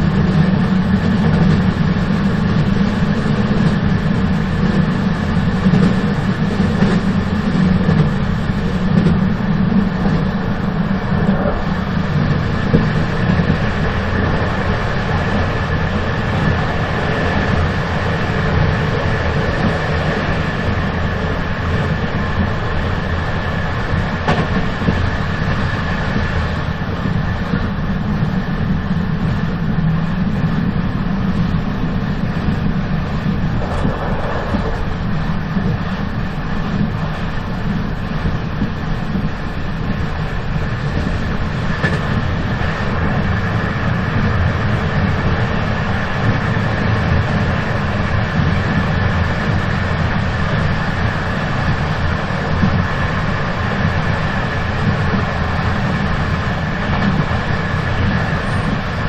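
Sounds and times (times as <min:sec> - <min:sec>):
high whine: 0:00.0 - 0:59.0
train rumbling: 0:00.0 - 0:59.0.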